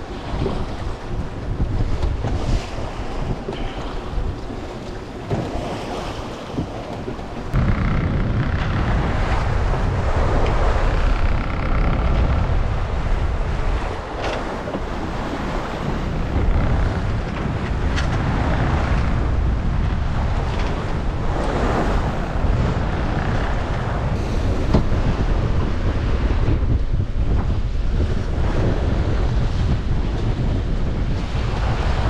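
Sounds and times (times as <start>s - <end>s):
waves rushing along hull: 0.0s - 32.0s
wind buffeting microphone: 0.0s - 32.0s.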